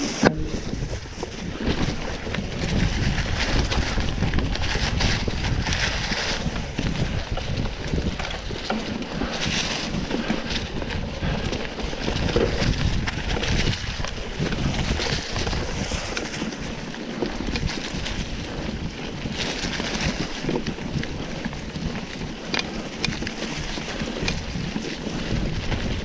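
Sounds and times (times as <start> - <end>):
bike rattles and clicks: 0.0 - 26.0
tyres rumbling over dirt: 0.0 - 26.0
wind buffeting microphone: 0.0 - 26.0.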